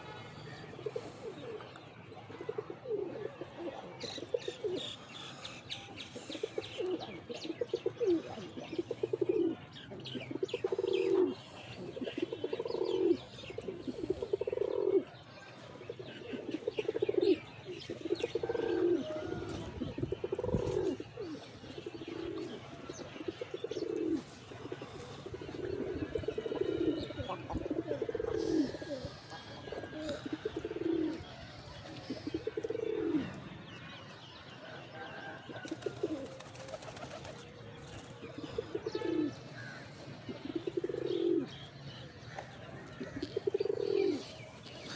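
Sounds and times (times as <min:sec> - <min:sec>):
pigeons cooing: 0:00.0 - 0:44.9.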